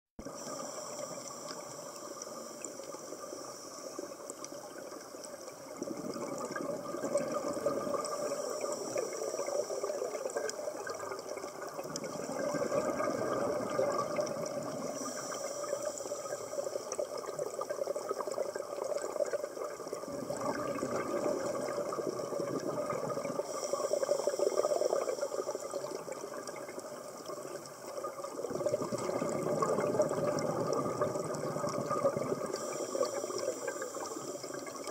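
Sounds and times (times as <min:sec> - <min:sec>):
steady underwater hiss: 0:00.2 - 0:34.9
diver's bubbles gurgling: 0:04.0 - 0:34.9.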